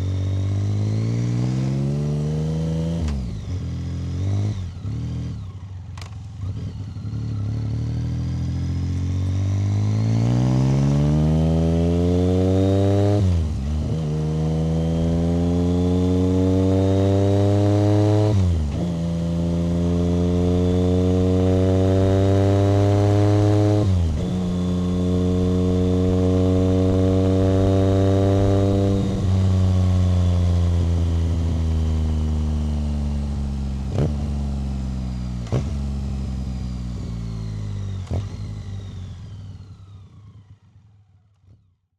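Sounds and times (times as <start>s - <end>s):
motorcycle engine accelerating: 0.0s - 41.7s.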